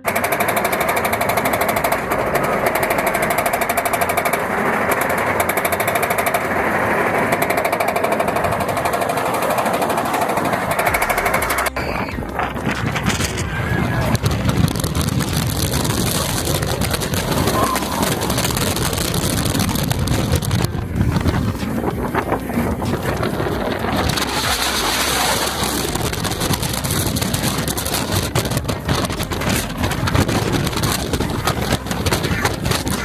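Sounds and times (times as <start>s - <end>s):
cars rattling on track: 0.0s - 33.0s
roller coaster train roaring: 0.0s - 33.0s
wind buffeting microphone: 0.0s - 33.0s.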